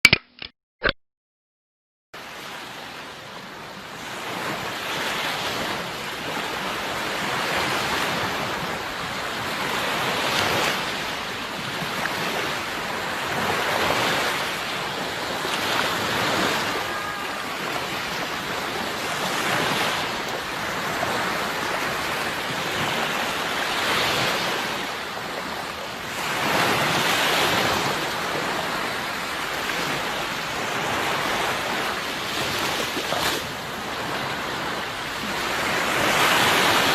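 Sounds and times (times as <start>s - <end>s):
sea waves breaking on shore: 2.2s - 36.9s.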